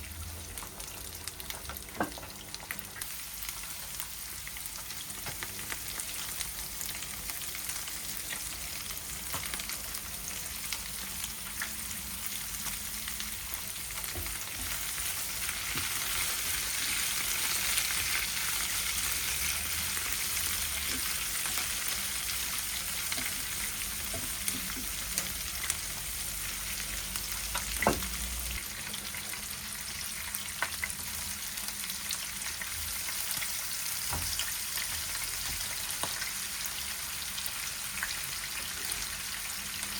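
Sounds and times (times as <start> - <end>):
food sizzling in frying pan: 0.0 - 39.9.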